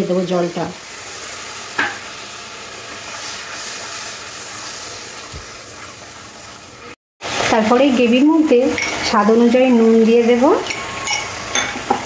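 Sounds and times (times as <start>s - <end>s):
gravy sizzling and simmering: 0.0s - 12.0s.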